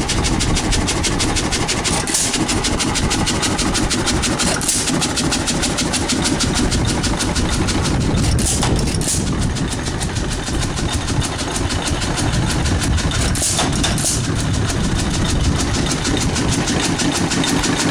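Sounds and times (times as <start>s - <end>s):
stationary engine clicking beat: 0.0s - 17.9s.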